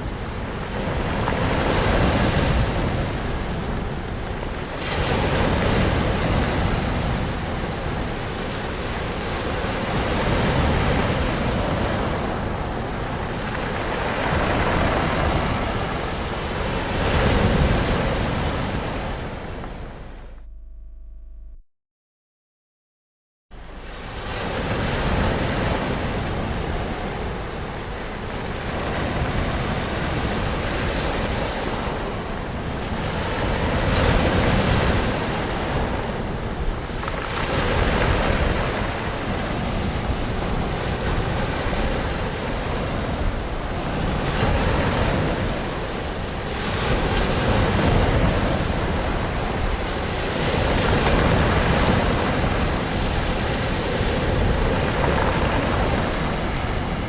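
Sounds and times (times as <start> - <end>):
ocean waves breaking on shore: 0.0 - 20.2, 23.6 - 57.0.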